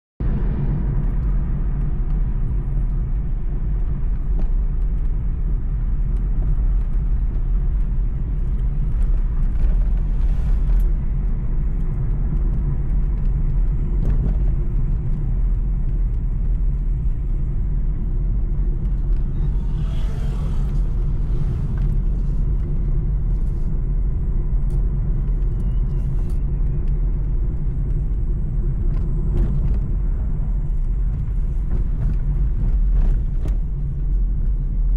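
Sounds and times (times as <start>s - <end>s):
road vehicle rumble: 0.2s - 34.9s.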